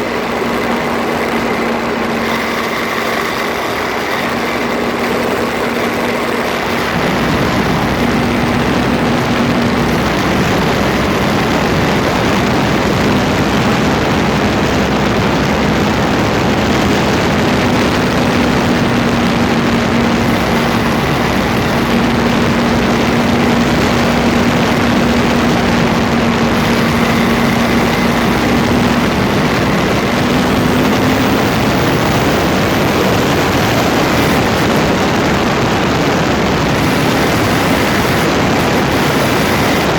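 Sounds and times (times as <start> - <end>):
drivetrain rushing and humming: 0.0 - 39.9.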